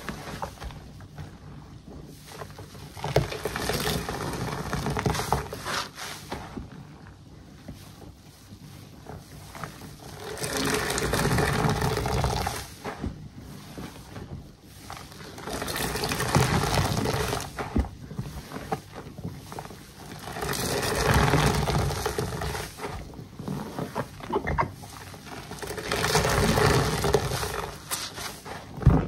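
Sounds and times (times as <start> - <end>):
sponges squelching in soapy water: 0.0 - 29.0.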